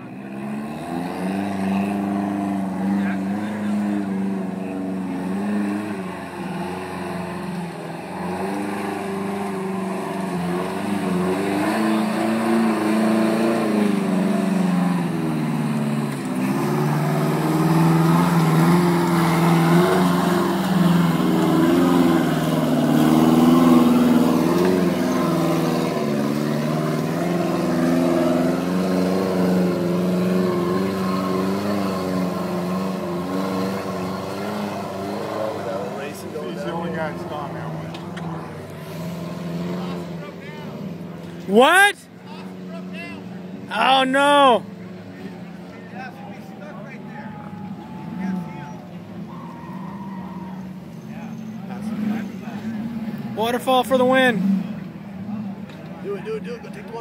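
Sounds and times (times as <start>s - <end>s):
buggy engine revving: 0.0s - 57.0s.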